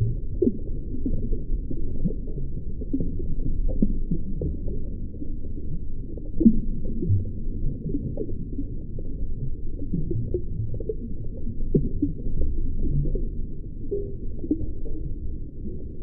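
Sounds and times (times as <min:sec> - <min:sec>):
low underwater rumble: 0:00.0 - 0:16.0.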